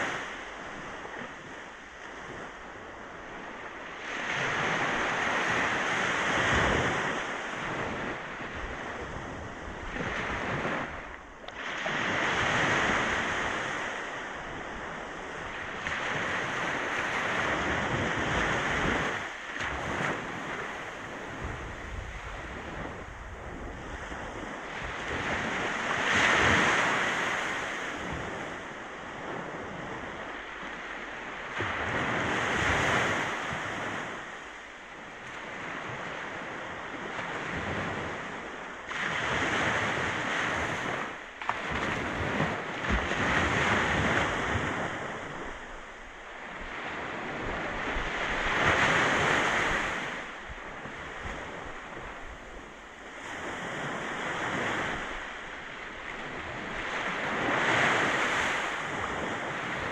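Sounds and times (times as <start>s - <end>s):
wind on microphone: 0.0s - 34.7s, 35.4s - 59.9s
ocean waves breaking: 0.0s - 59.9s.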